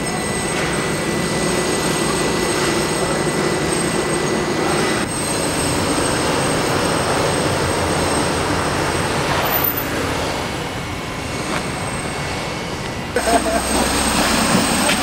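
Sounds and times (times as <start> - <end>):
construction machinery droning: 0.0 - 15.0
thin high whine: 0.0 - 15.0.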